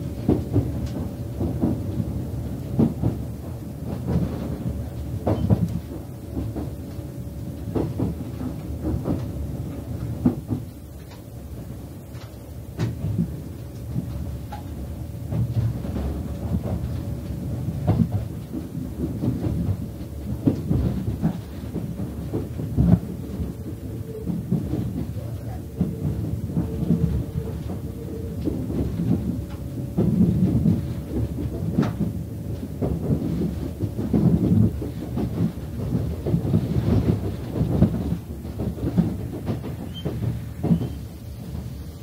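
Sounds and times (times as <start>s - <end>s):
train cabin rumble: 0.0s - 42.0s.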